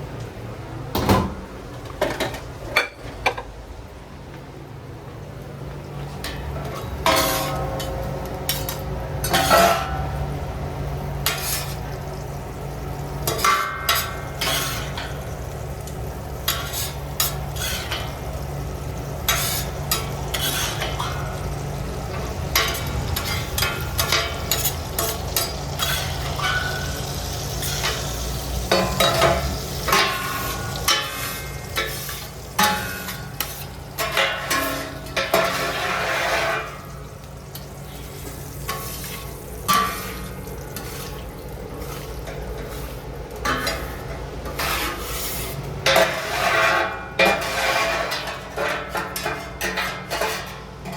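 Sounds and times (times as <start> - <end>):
food frying and sizzling: 5.1 - 50.9
metal utensils scraping pans: 6.2 - 10.2, 11.2 - 12.0, 13.2 - 15.5, 16.4 - 50.9.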